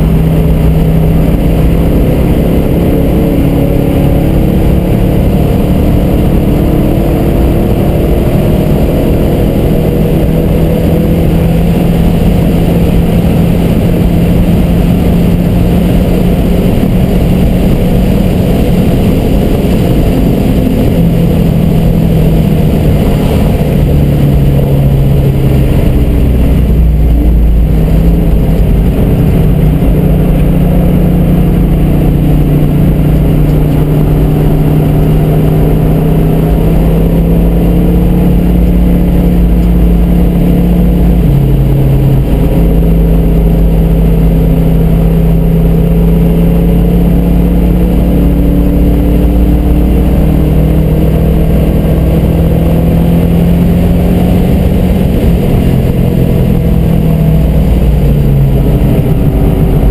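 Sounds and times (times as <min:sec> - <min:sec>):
car engine running hard from inside: 0:00.0 - 0:59.9.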